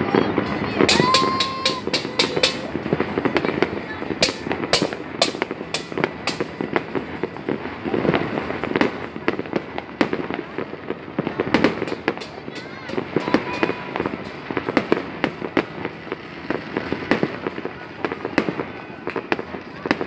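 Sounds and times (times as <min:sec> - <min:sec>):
fireworks bangs: 0:00.0 - 0:20.0
fireworks crackling: 0:00.0 - 0:20.0.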